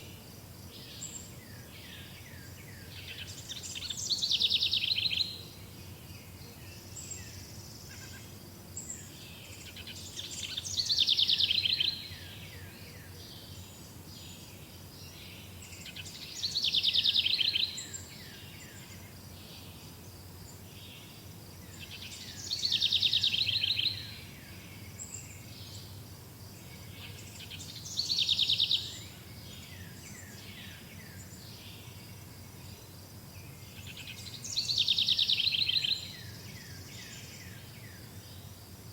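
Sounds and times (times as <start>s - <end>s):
songbird trilled song: 0.8s - 8.2s, 8.8s - 19.8s, 20.6s - 26.0s, 26.6s - 32.9s, 33.5s - 38.5s.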